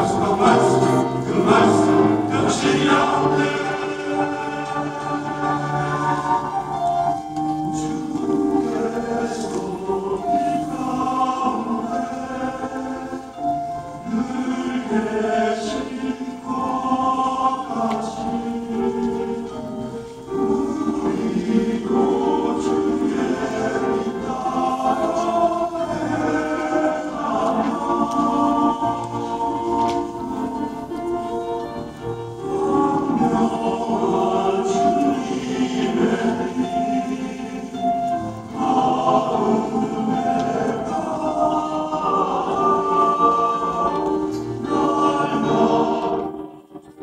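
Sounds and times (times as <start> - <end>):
men's choir singing: 0.0 - 47.0.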